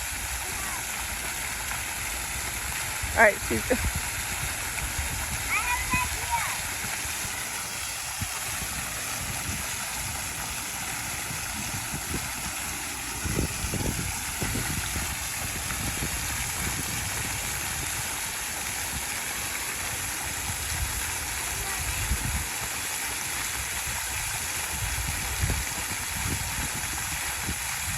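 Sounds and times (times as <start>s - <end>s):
water feature spraying: 0.0s - 27.9s.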